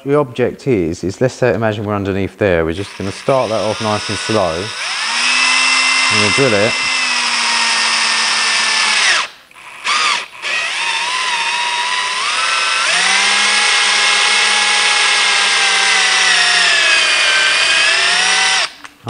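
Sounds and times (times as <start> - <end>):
cordless drill motor whining: 2.8 - 18.9.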